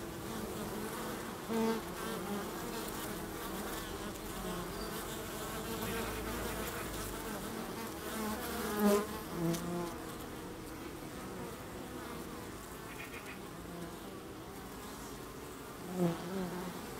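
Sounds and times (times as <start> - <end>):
bees humming: 0.0 - 16.9
single bee buzzing: 0.0 - 16.9.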